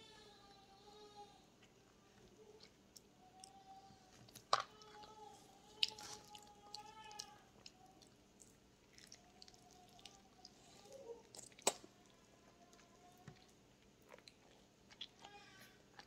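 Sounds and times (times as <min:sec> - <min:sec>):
child chewing soft fruit: 0:01.6 - 0:16.0.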